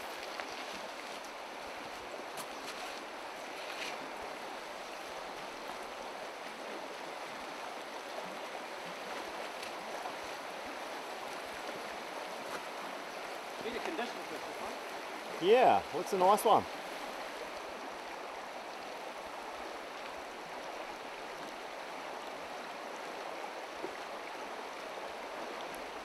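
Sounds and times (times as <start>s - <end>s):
stream running over stones: 0.0s - 26.0s.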